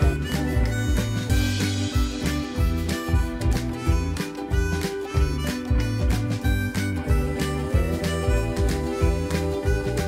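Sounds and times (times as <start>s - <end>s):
harmonica melody: 0.0s - 10.0s
music with steady beat: 0.0s - 10.0s.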